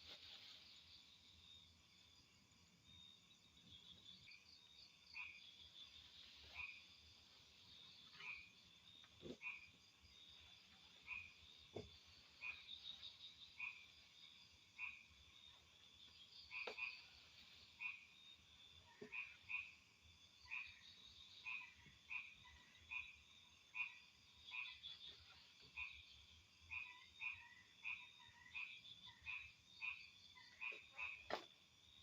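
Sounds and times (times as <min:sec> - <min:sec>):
frogs croaking: 0:00.0 - 0:32.0.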